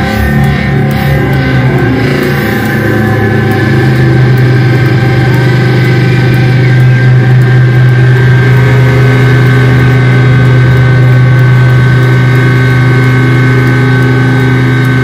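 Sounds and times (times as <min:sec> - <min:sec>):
electronic drone: 0:00.0 - 0:15.0.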